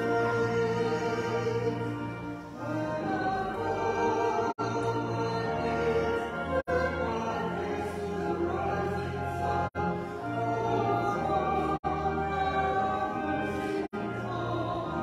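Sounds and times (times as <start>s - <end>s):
slow choral music: 0.0s - 15.0s.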